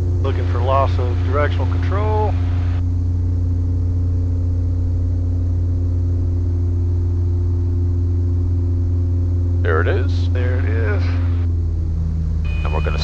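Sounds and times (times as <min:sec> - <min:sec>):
aircraft engine drone: 0:00.0 - 0:13.0
steady tones: 0:00.0 - 0:13.0.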